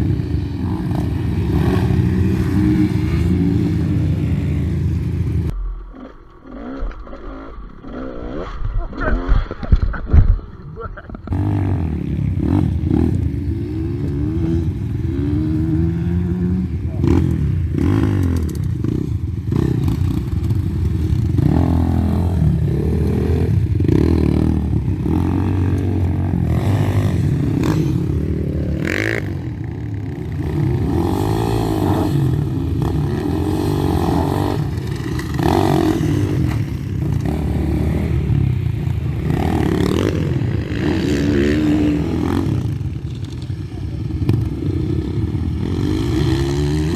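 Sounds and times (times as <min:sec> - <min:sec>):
motorcycle engine revving: 0:00.0 - 0:09.7, 0:11.2 - 0:46.9.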